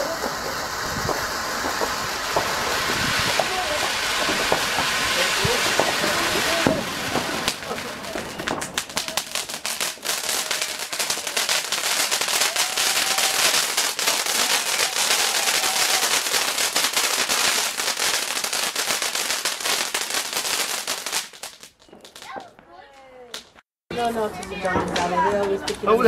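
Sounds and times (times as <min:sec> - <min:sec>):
fireworks crackling: 0:00.0 - 0:26.0.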